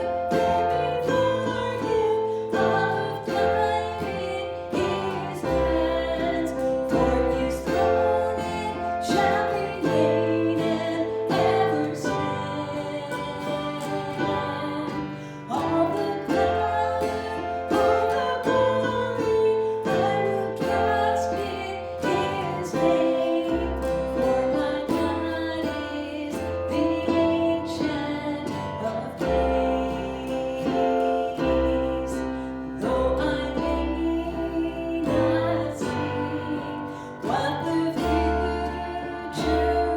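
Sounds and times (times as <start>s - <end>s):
guitar: 0.0s - 39.9s
person singing: 0.0s - 39.9s.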